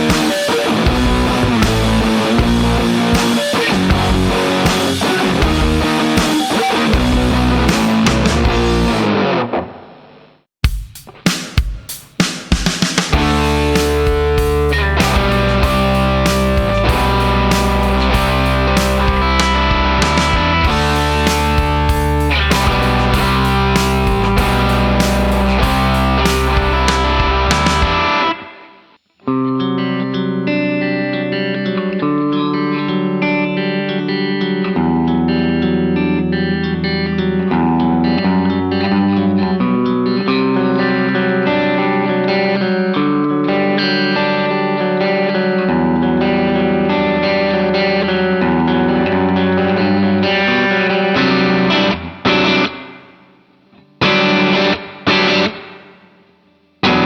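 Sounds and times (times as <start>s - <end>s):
distorted electric guitar: 0.0s - 10.4s, 13.1s - 57.0s.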